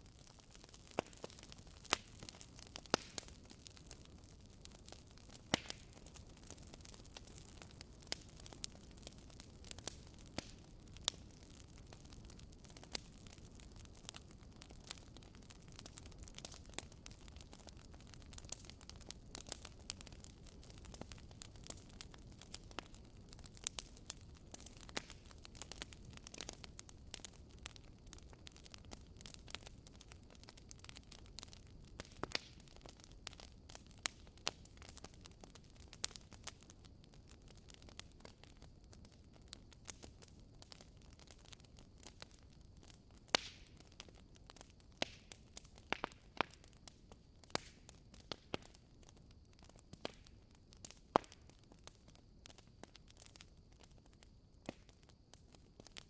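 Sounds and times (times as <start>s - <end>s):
firewood crackling and snapping: 0.0s - 56.0s
low rumble of burning fire: 0.0s - 56.0s.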